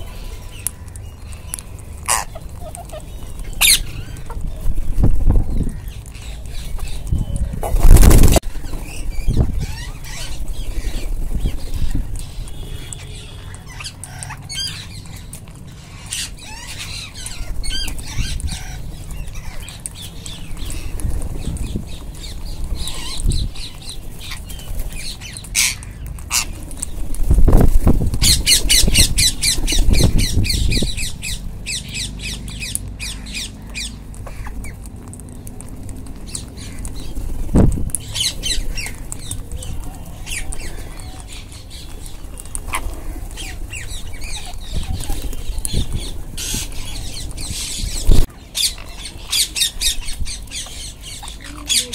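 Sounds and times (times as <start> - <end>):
parakeets squawking: 0.0 - 35.6, 36.2 - 51.9.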